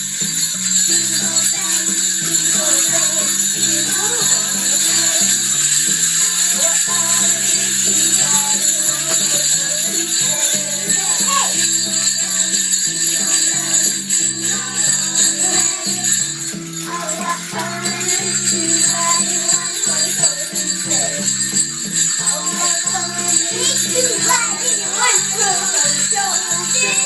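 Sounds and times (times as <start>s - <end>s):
sleigh bells jingling: 0.0s - 27.0s
children's voices: 0.9s - 16.2s, 16.8s - 27.0s.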